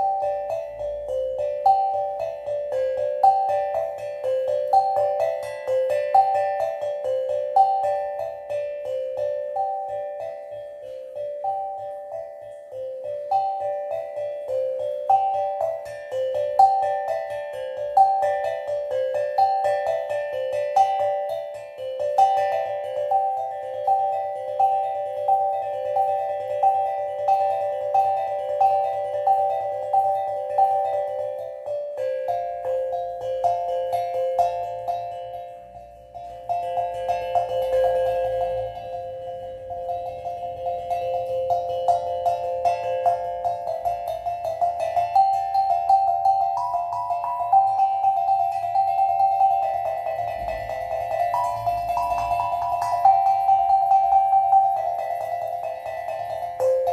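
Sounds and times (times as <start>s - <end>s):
steel tongue drum notes: 0.0s - 56.9s.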